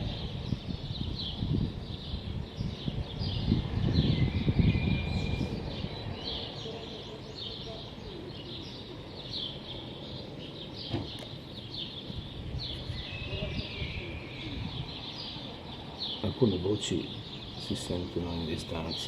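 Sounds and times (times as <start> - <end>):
city background rumble: 0.0 - 19.0
small birds chirping: 0.0 - 19.0.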